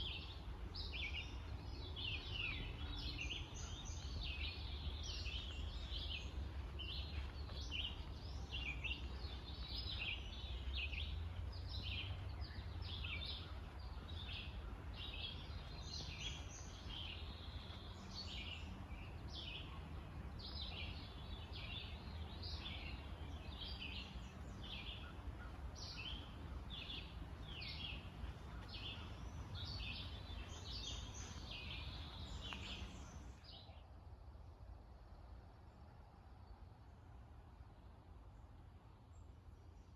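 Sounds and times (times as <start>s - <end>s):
birds chirping and singing: 0.0s - 33.4s.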